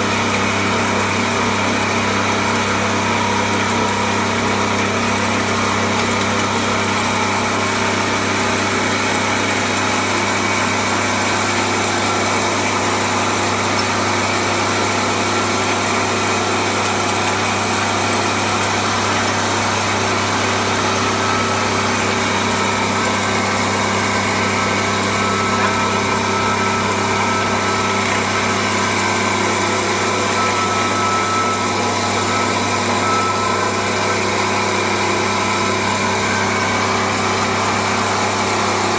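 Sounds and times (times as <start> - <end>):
coffee mill running: 0.0 - 38.9.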